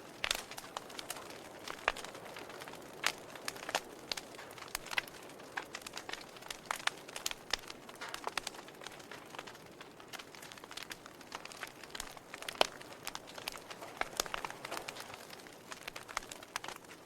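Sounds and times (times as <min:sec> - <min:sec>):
soft fire hiss: 0:00.0 - 0:17.0
wood fire crackling and popping: 0:00.0 - 0:17.0.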